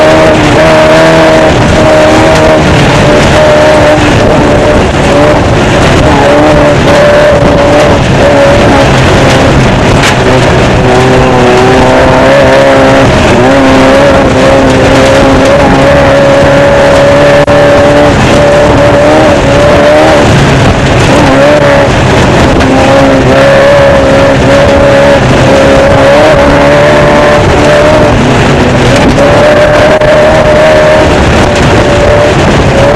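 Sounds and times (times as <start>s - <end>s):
loud rush of noise: 0.0s - 32.9s
race car engine running hard: 0.0s - 32.9s.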